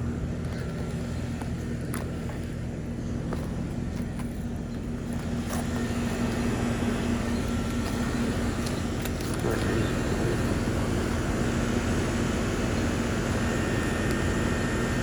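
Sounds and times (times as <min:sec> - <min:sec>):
compressor hum: 0:00.0 - 0:15.0
fan rushing: 0:00.0 - 0:15.0.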